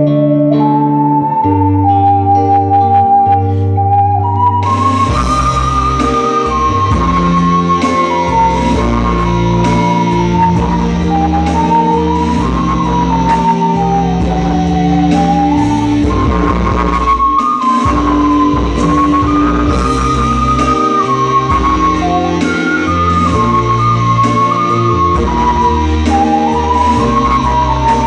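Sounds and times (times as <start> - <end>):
backing track of guitar and drums: 0.0 - 28.0
ocarina melody: 0.0 - 28.0.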